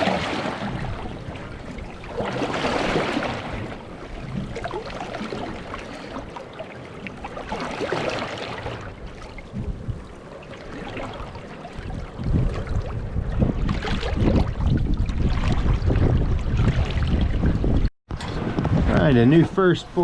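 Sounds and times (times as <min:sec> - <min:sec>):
water splashing against boat: 0:00.0 - 0:20.0.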